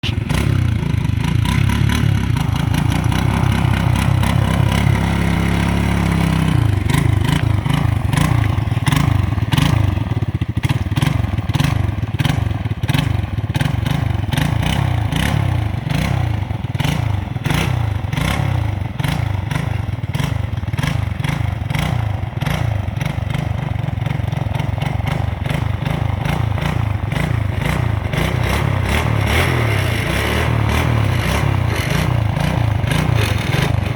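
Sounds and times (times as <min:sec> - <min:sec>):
atv engine revving: 0:00.0 - 0:33.9.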